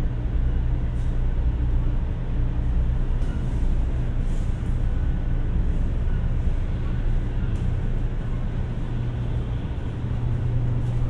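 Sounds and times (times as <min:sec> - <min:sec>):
train rumble and hum inside: 0:00.0 - 0:11.0.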